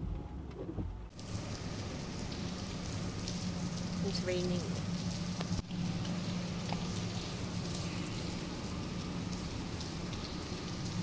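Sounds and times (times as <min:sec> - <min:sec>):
steady rain falling: 0:01.1 - 0:11.0.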